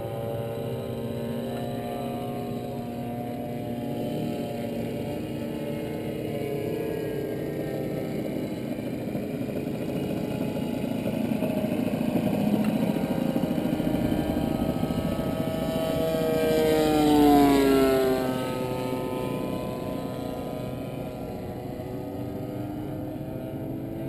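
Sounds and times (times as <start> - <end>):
model airplane engines running: 0.0 - 24.0.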